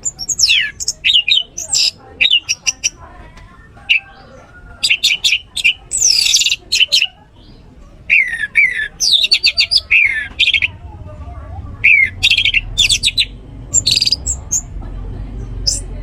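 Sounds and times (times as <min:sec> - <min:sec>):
thrush singing: 0:00.0 - 0:16.0.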